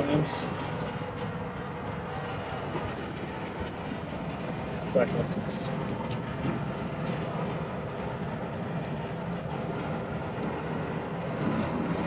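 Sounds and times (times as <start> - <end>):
air conditioning unit droning: 0.0 - 12.0.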